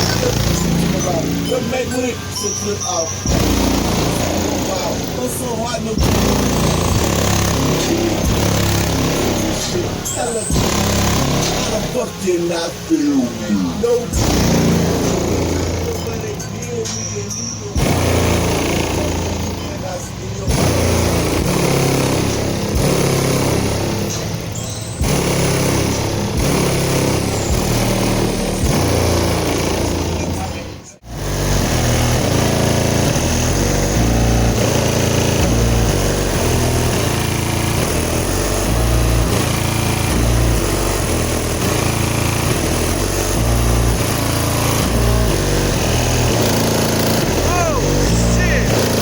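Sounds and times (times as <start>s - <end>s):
loud bass-heavy music: 0.0s - 49.0s.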